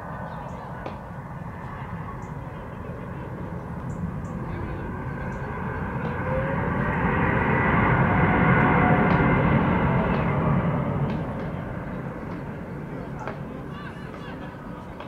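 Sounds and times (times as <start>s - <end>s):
jet engines rushing with whine: 0.0s - 15.0s.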